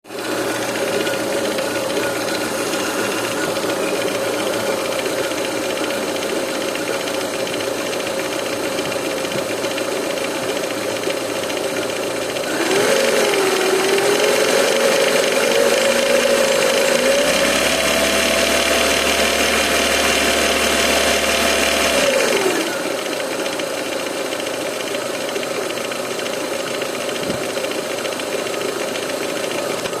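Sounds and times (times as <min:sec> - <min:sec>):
petrol engine knocking and revving: 0:00.0 - 0:30.0.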